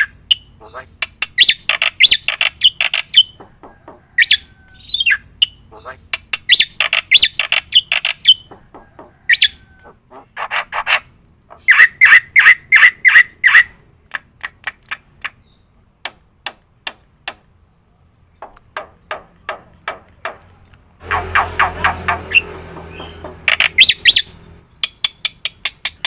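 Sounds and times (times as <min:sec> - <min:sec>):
starling clicking calls: 0:00.0 - 0:15.6, 0:18.4 - 0:26.0.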